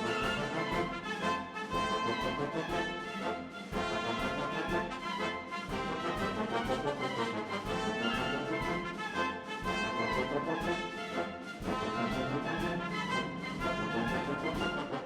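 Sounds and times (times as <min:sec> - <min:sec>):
orchestral music with brass: 0:00.0 - 0:15.0.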